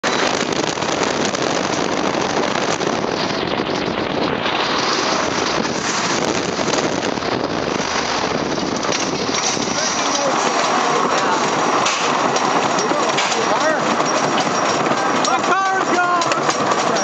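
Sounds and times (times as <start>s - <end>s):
roller coaster on wooden track: 0.0s - 17.0s
wind noise on microphone: 0.0s - 17.0s.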